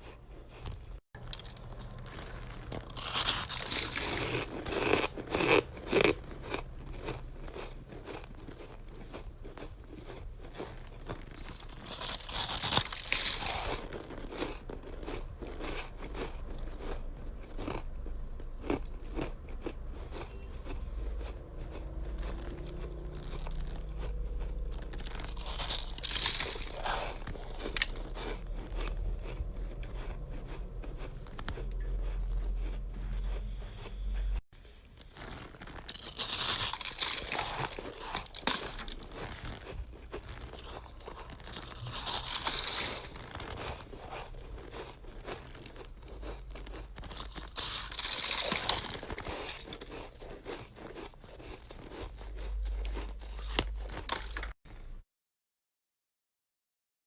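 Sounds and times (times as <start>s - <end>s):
crunchy chewing of ice: 0.0s - 54.9s.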